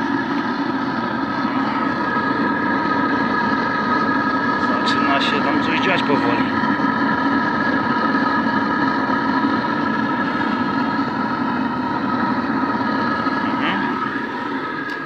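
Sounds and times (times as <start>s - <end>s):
furnace fire rushing: 0.0s - 15.0s
steady whining tones: 0.0s - 15.0s.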